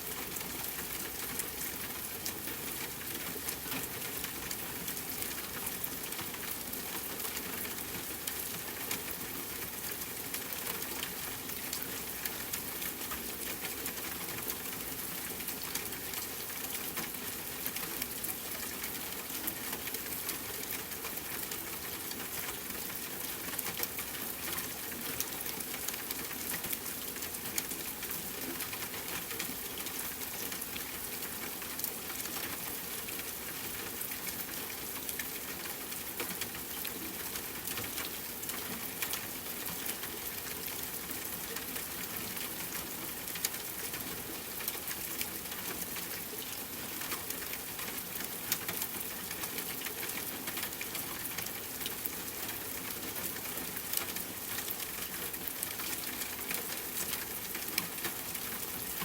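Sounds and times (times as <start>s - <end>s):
rain pattering on tent fabric: 0.0s - 59.0s.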